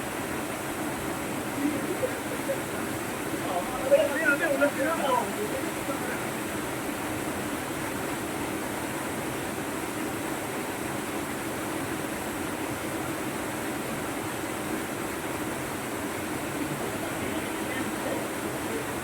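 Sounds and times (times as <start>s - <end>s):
fast-flowing water rushing: 0.0s - 19.0s.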